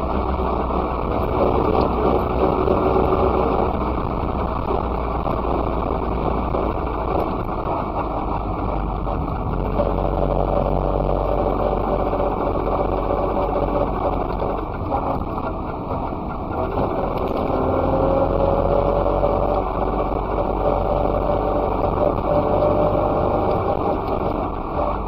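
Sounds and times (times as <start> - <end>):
two-stroke car engine running: 0.0 - 25.0.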